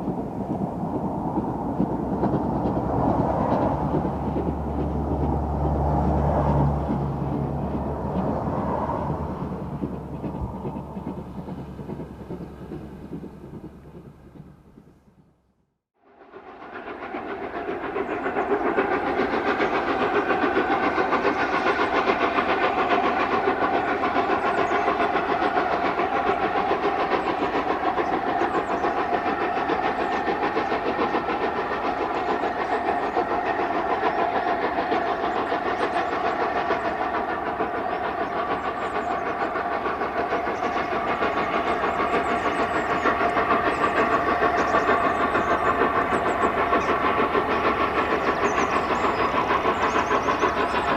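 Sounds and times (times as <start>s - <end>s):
steam locomotive working hard: 0.0s - 15.4s, 16.0s - 50.9s.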